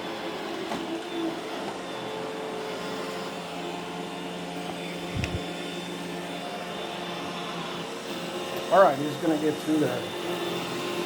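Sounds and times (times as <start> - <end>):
robot vacuum humming: 0.0 - 11.0.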